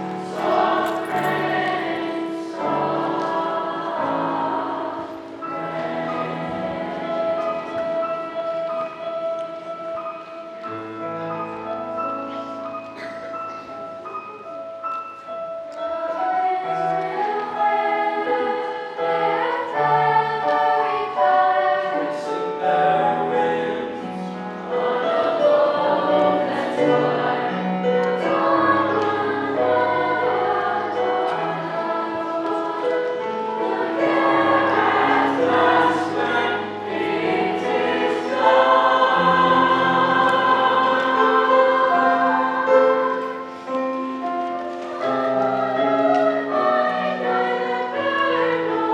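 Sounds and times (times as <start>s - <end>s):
choir singing: 0.0s - 10.3s, 15.4s - 48.9s
piano accompaniment: 0.0s - 48.9s.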